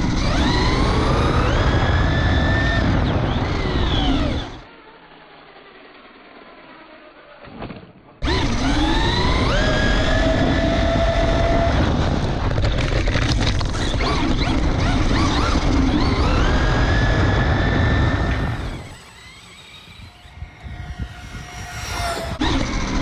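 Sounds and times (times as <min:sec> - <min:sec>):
wind noise on microphone: 0:00.0 - 0:04.6, 0:08.2 - 0:23.0
electric motor whining: 0:00.0 - 0:04.9, 0:08.2 - 0:23.0.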